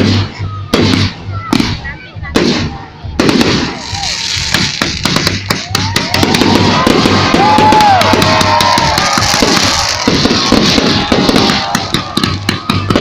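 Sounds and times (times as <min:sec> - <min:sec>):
fireworks popping and crackling: 0:00.0 - 0:13.0
loud music: 0:00.0 - 0:13.0.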